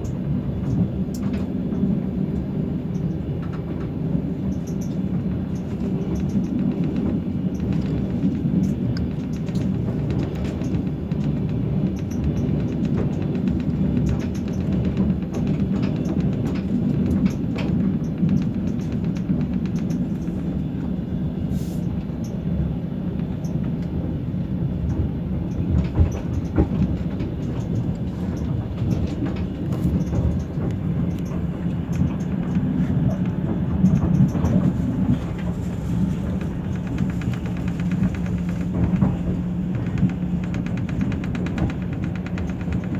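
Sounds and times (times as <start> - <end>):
train low rumble: 0.0 - 42.9
wheels clicking on rails: 0.0 - 42.9.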